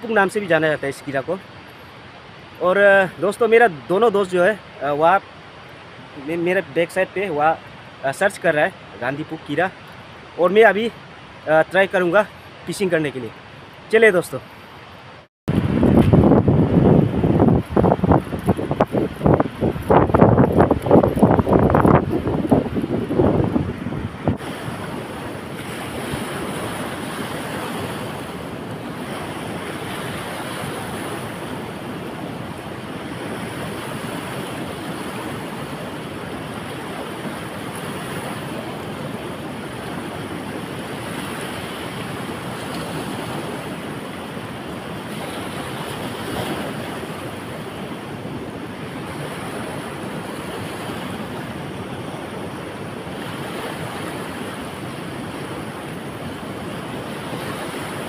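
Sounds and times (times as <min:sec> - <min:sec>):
river rushing over rapids: 0:00.0 - 0:58.0.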